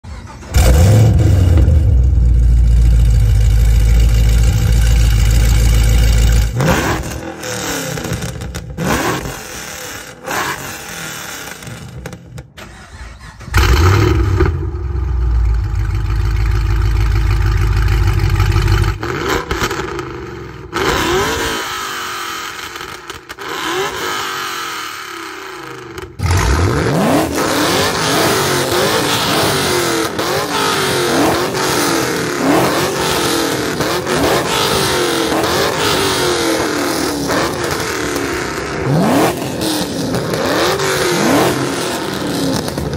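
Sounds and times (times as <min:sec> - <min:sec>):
car engine revving: 0:00.1 - 0:12.1, 0:12.7 - 0:42.9.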